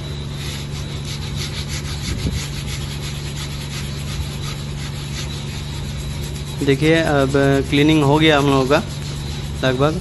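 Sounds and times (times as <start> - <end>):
hand tool scraping steel rail: 0.3 - 10.0.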